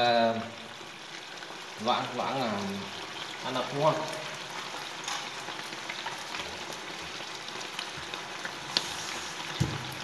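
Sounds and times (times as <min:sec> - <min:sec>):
egg mixture sizzling in frying pan: 0:00.0 - 0:10.0.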